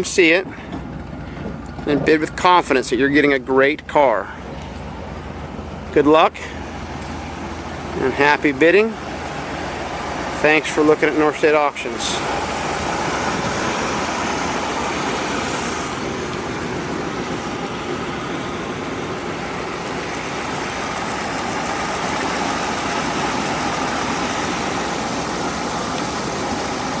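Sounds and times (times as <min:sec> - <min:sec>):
car engine running: 0:00.0 - 0:27.0
road noise: 0:00.0 - 0:27.0.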